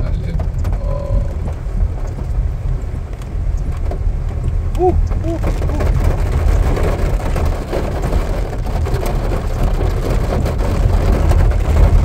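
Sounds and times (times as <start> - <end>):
car engine and tyres on wet road: 0.0 - 12.0
rain on a car: 0.0 - 12.0.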